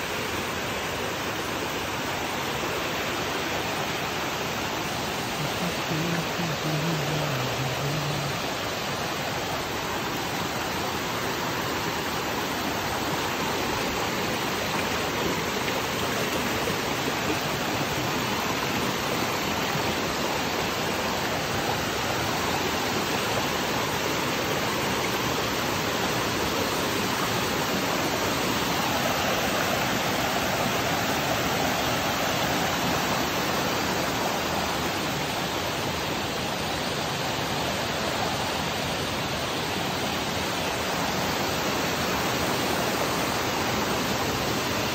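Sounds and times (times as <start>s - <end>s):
stream rushing over boulders: 0.0s - 44.9s.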